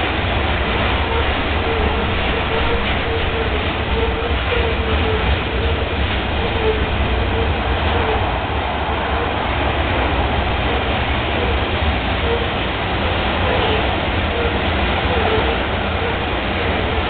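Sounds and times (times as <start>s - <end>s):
faint whine: 0.0s - 17.0s
steel wheels rumbling on rail: 0.0s - 17.0s.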